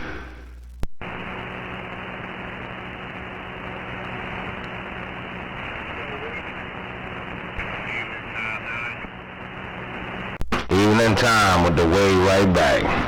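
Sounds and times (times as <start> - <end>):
faint hum: 0.0 - 13.0
radio static hiss: 0.0 - 13.0.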